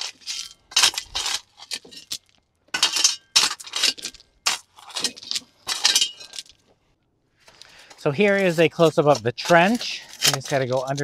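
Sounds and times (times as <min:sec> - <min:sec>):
shovel scraping stones: 0:00.0 - 0:06.6, 0:07.4 - 0:11.0
stones clinking and rattling: 0:00.0 - 0:06.8, 0:07.4 - 0:11.0.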